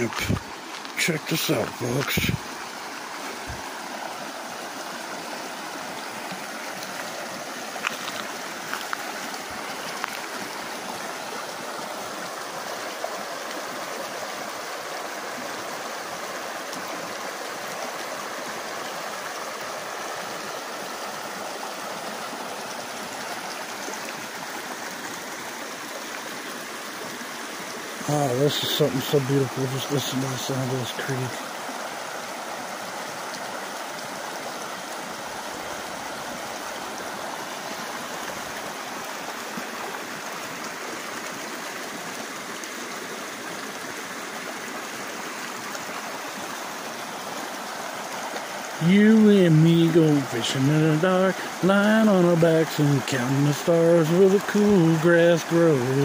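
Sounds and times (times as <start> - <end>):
creek flowing over rocks: 0.0 - 56.0.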